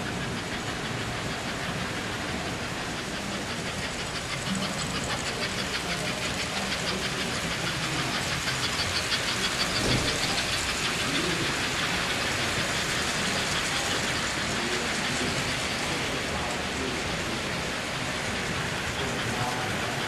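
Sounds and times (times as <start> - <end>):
model train wheels and motors whirring: 0.0 - 20.0
fast even clicking: 0.1 - 20.0.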